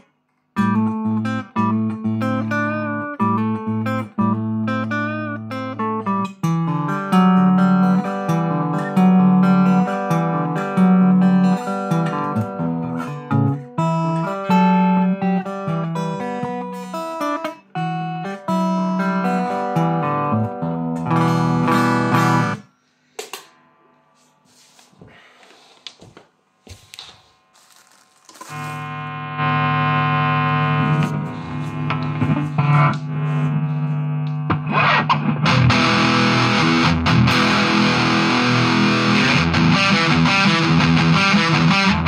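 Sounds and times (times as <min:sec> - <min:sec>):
electric guitar through amp: 0:00.0 - 0:22.7, 0:27.7 - 0:42.0.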